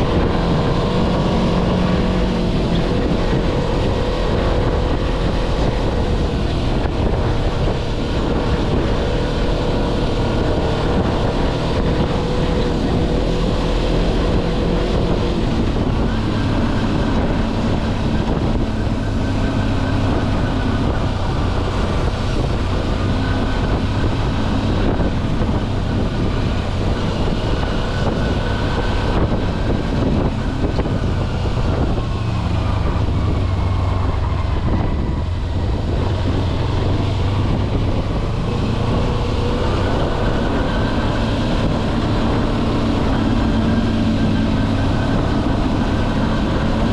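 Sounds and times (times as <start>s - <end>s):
motorcycle engine running: 0.0s - 46.9s
wind and road noise: 0.0s - 46.9s.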